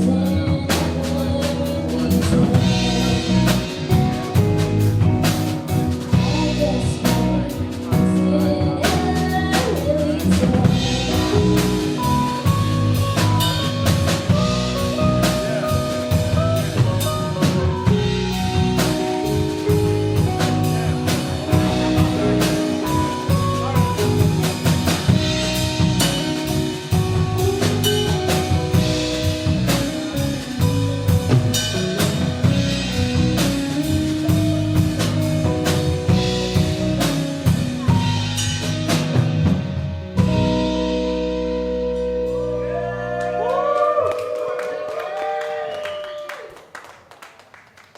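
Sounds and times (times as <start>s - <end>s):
drum kit beat: 0.0s - 42.8s
live band instrumental: 0.0s - 47.1s.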